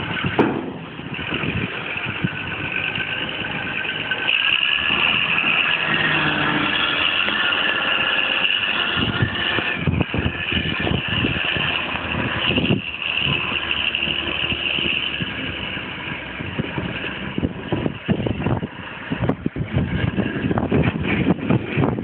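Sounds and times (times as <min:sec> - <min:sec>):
diesel engine running: 0:00.0 - 0:22.0
high hydraulic whine: 0:00.0 - 0:22.0
uneven rumbling: 0:00.0 - 0:22.0.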